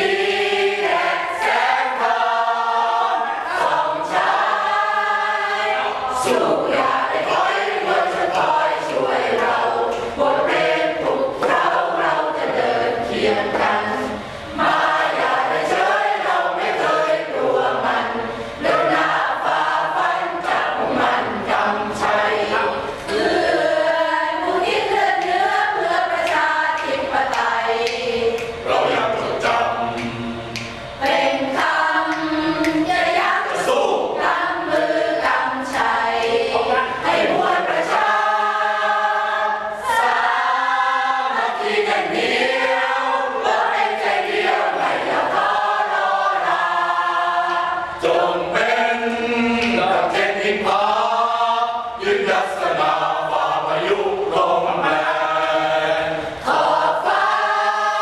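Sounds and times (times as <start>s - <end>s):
mixed choir singing unaccompanied: 0.0s - 58.0s.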